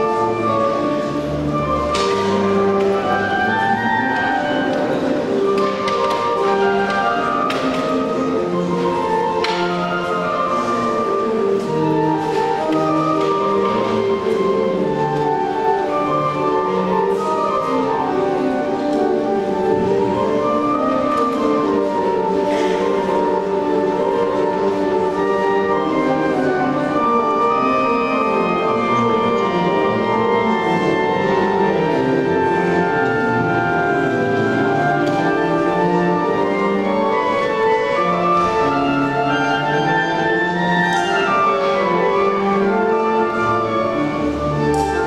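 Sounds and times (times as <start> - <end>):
instrumental classical music: 0.0 - 45.0.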